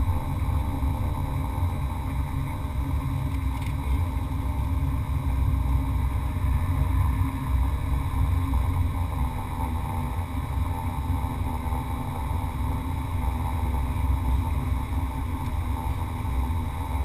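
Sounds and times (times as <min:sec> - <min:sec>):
turboprop engines rumbling: 0:00.0 - 0:17.0.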